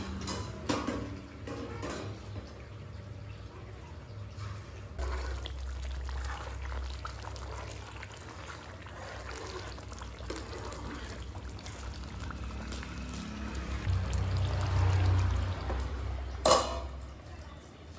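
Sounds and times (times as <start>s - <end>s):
thick curry bubbling: 2.1s - 17.9s.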